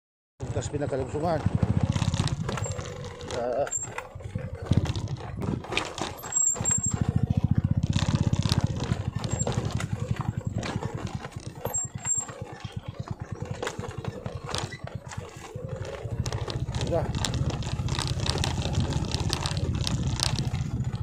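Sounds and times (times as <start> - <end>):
motorcycle engine puttering: 0.4 - 21.0
knocks and rattles: 1.2 - 21.0.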